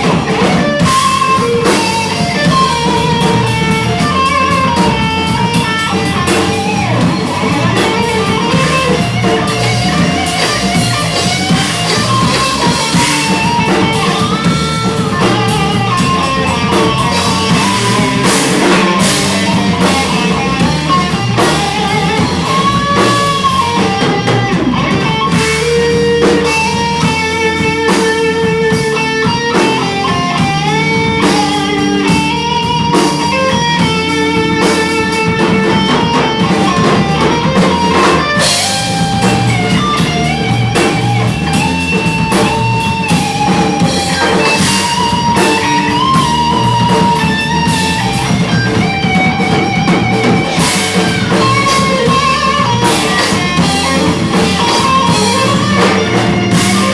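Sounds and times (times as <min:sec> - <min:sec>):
drum kit: 0:00.0 - 0:56.9
electric guitar lead melody: 0:00.0 - 0:56.9.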